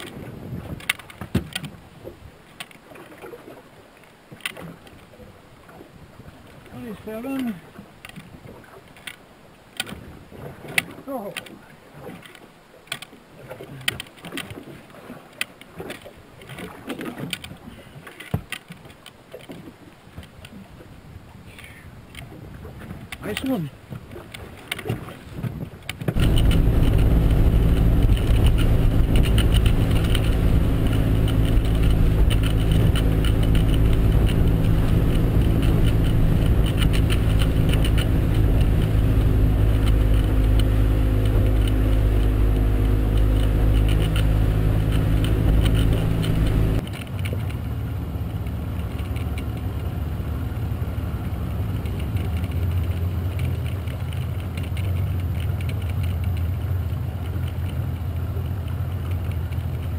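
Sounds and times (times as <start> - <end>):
outboard motor running: 4.3 - 59.9.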